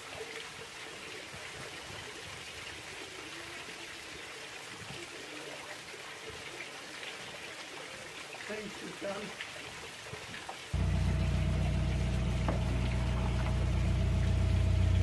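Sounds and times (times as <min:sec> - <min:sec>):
water trickling and running: 0:00.0 - 0:15.0.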